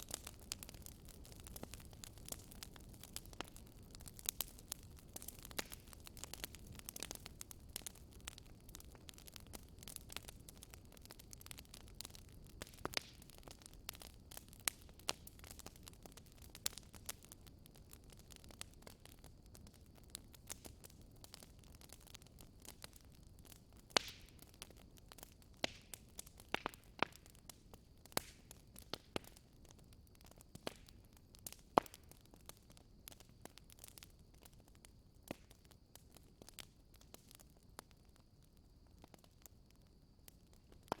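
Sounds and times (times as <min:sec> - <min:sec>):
low rumble of flame: 0:00.0 - 0:41.0
wood fire crackling: 0:00.0 - 0:41.0.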